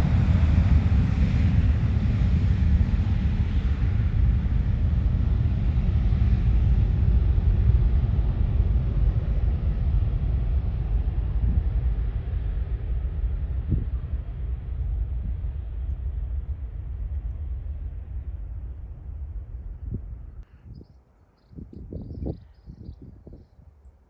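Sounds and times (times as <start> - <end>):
jet airliner engines rumbling: 0.0 - 20.8, 21.4 - 24.0.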